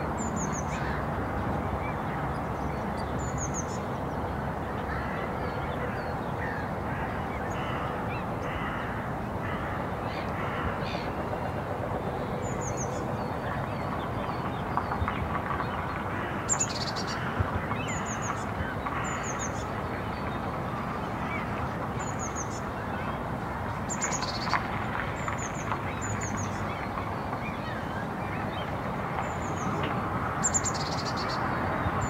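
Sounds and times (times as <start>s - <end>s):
distant town hum: 0.0s - 32.0s.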